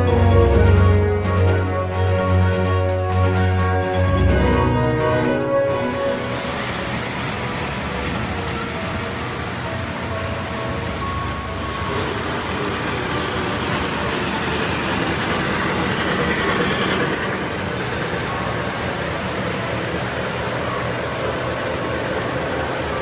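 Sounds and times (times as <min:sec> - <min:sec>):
faint music: 0:00.0 - 0:23.0
toy trains rumbling and whirring: 0:00.0 - 0:23.0.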